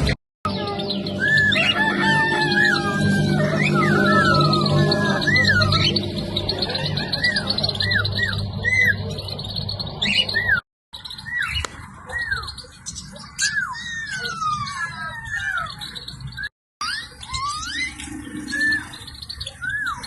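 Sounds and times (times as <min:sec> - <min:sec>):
birds chirping: 0:00.0 - 0:20.0
falling bird whistles and chattering: 0:00.0 - 0:20.0.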